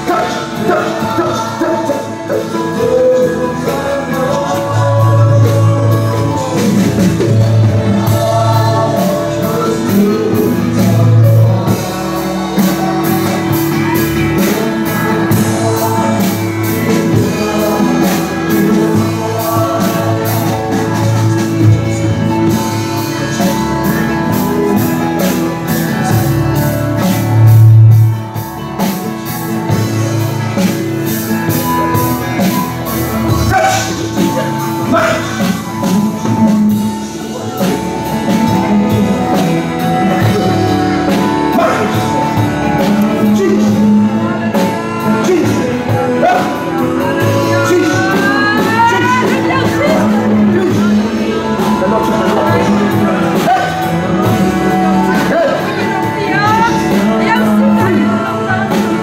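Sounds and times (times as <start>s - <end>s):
congregation praying and calling out: 0.0s - 27.9s, 28.7s - 59.0s
keyboard chords: 0.0s - 59.0s
singing: 0.0s - 59.0s
steady beat: 0.0s - 59.0s.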